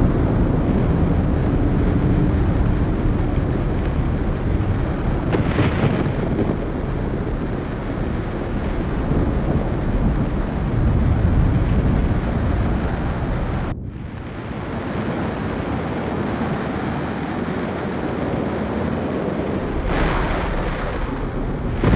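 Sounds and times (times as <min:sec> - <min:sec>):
storm wind: 0:00.0 - 0:21.9
surf: 0:00.0 - 0:21.9.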